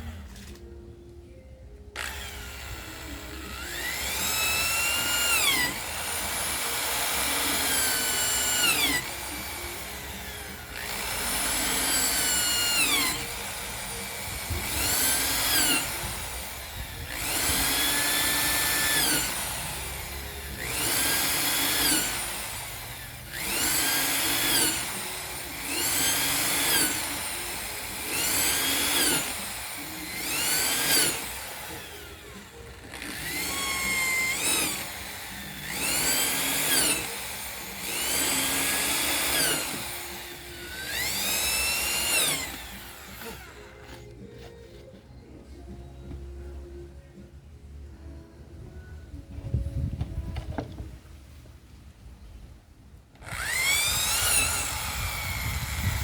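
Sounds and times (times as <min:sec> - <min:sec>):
electric drill whining: 0:00.0 - 0:00.7, 0:02.0 - 0:44.5, 0:53.2 - 0:56.0.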